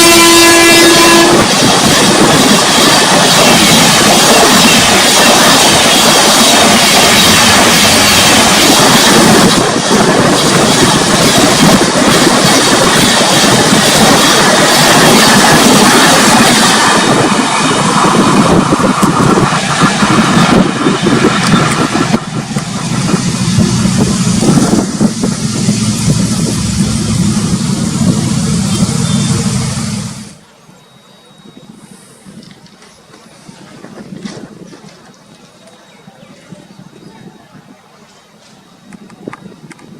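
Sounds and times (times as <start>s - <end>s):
train rumbling on track: 0.0s - 30.8s, 31.4s - 39.9s.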